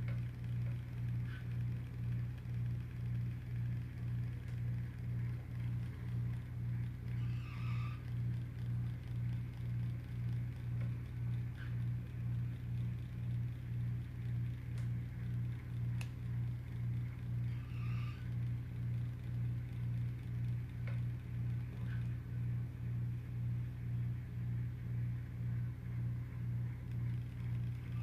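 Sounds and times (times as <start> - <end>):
small electric motor humming: 0.0 - 28.0.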